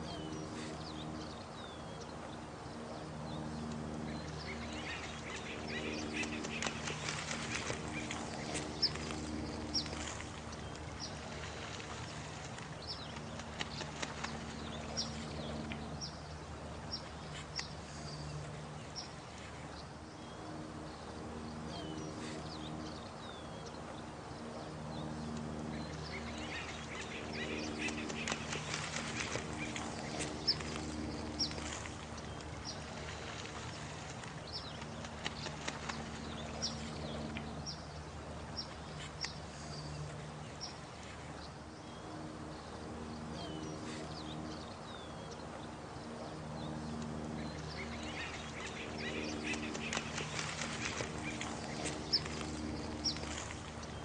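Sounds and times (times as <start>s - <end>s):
running water: 0.0s - 20.3s, 25.2s - 54.0s
birds chirping: 0.0s - 54.0s
steady low hum: 0.0s - 54.0s.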